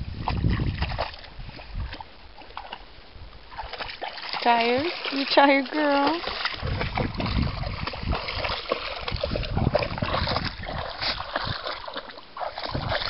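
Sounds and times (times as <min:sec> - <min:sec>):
dog splashing through water: 0:00.2 - 0:02.8, 0:03.5 - 0:13.0.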